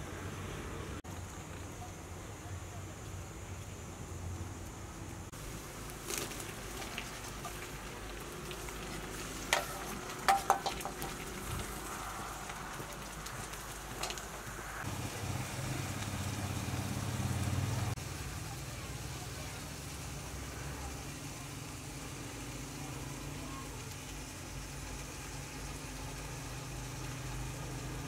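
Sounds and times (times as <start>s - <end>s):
tomatoes sizzling in a pot: 5.3s - 28.0s.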